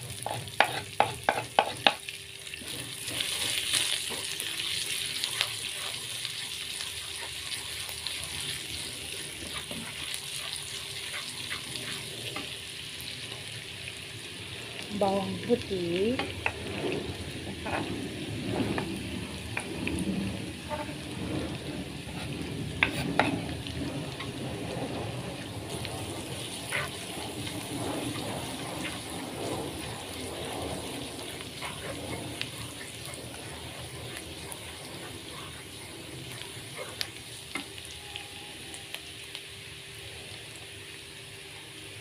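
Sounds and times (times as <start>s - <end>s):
garlic sizzling in hot oil: 0.0s - 42.0s.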